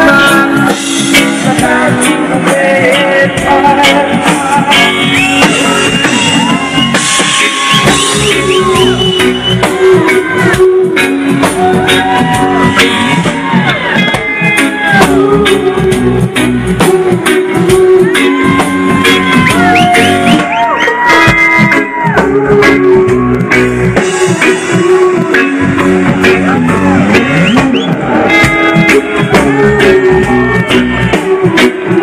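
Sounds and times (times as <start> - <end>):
reggae band playing: 0.0 - 32.0.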